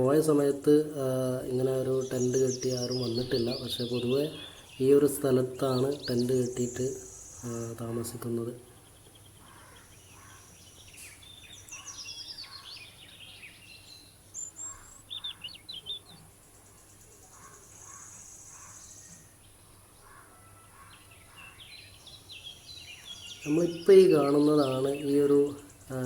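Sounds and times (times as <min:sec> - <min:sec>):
birds chirping and calling: 0:00.0 - 0:26.0
faint steady hiss: 0:00.0 - 0:26.0.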